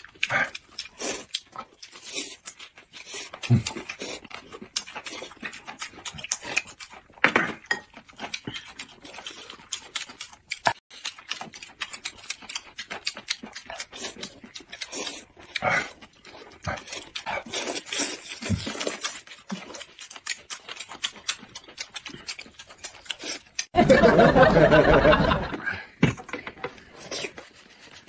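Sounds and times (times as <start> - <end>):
noodles slurped and chewed: 0.0 - 23.8, 26.4 - 28.0.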